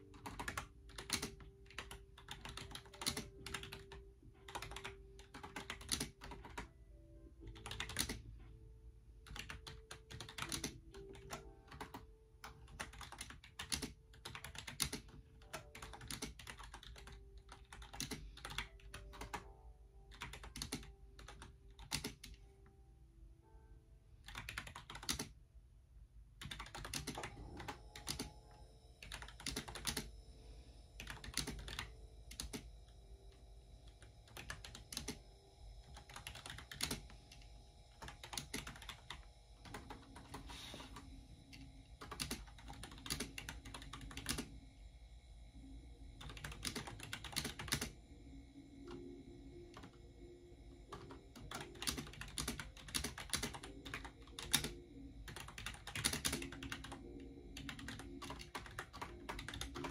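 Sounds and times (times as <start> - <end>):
typing on computer keyboard: 0.0 - 6.7, 7.4 - 8.4, 9.2 - 22.4, 24.2 - 25.4, 26.4 - 30.2, 31.0 - 44.6, 46.1 - 48.0, 49.7 - 50.0, 50.8 - 59.9.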